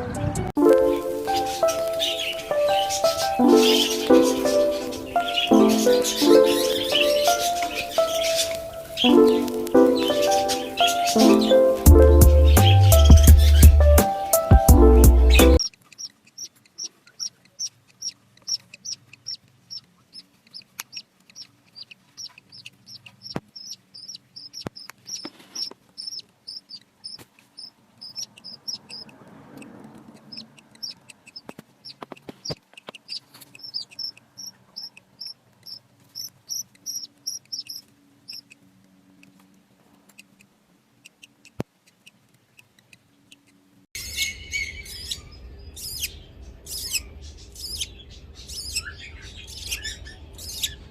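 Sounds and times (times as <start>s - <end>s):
budgerigars chirping: 0.8s - 38.6s, 43.3s - 50.9s.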